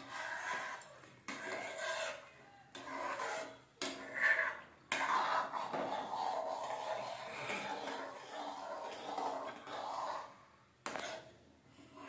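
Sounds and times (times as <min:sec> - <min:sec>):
metal spoon scraping metal pot: 0:00.0 - 0:12.0.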